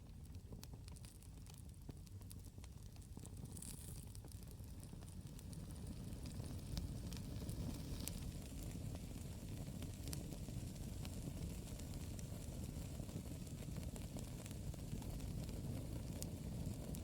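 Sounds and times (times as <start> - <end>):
burning wood crackling and popping: 0.0 - 17.0
campfire low rumble: 0.0 - 17.0.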